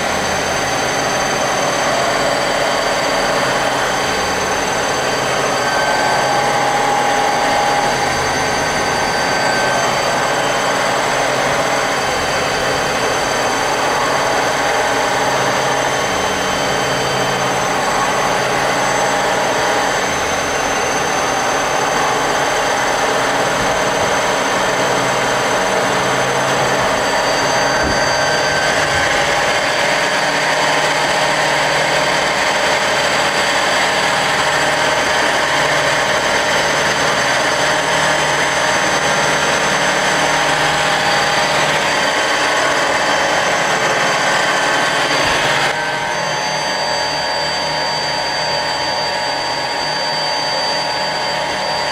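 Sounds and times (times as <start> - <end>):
high-pitched machine whine: 0.0 - 51.9
lathe machine running: 0.0 - 51.9.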